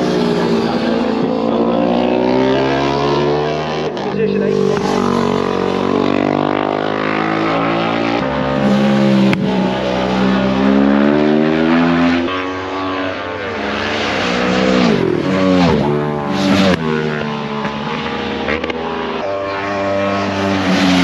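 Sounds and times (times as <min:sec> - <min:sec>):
motorcycles passing at speed: 0:00.0 - 0:21.0
racing motorcycle engines revving: 0:00.0 - 0:21.0.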